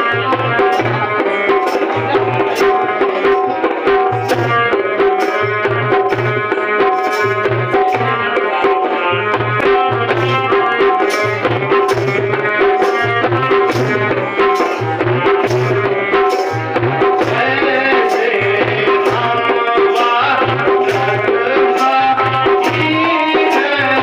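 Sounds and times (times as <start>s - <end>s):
held melody line: 0.0s - 24.0s
repeating drum beat: 0.0s - 24.0s.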